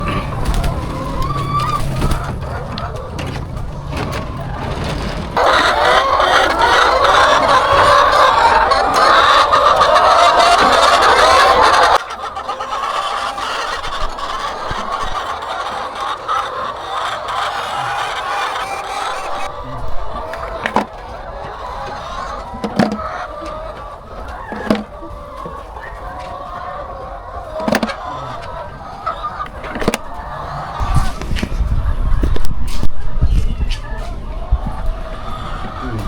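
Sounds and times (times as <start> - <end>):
hens clucking: 0.0 - 36.0.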